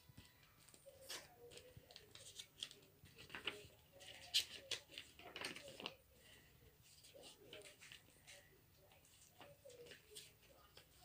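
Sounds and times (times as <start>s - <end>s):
paper pages rustling and flicking: 0.2s - 6.0s, 6.8s - 11.0s.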